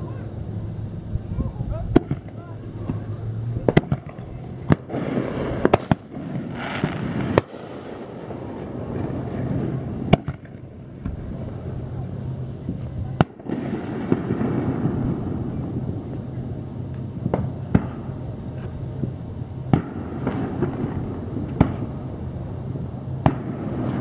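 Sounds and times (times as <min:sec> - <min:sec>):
low hum: 0:00.0 - 0:24.0
steady background hiss: 0:00.0 - 0:24.0
distant fireworks bangs: 0:01.8 - 0:24.0.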